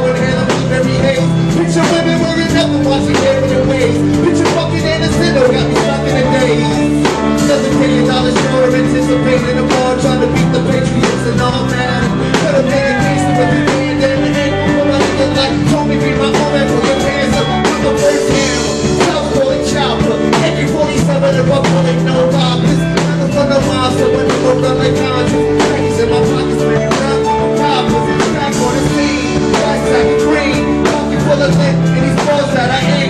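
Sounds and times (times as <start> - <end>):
held bass and chord notes: 0.0 - 33.0
live hip-hop music: 0.0 - 33.0
steady drum beat: 0.0 - 33.0.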